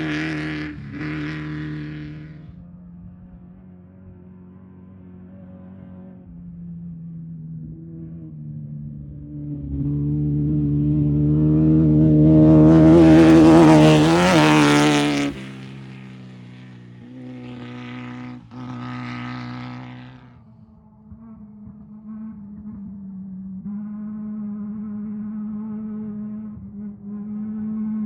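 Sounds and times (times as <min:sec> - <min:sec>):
quieter engine: 0:00.0 - 0:28.0
race vehicle engine passing: 0:00.0 - 0:28.0.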